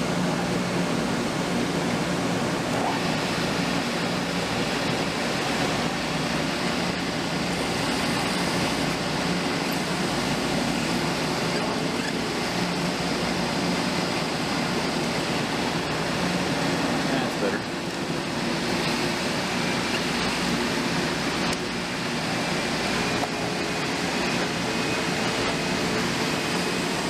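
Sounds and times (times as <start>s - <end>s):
cnc machine humming: 0.0s - 27.0s.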